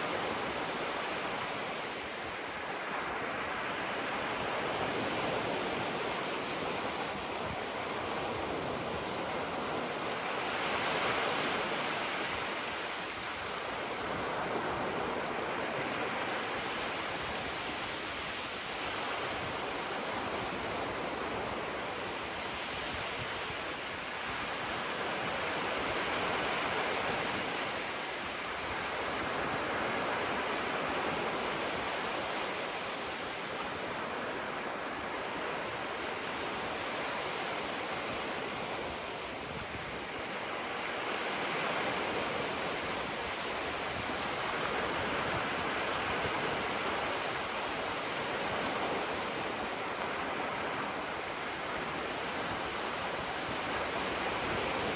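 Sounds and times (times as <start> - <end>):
small waves breaking on shore: 0.0 - 54.9.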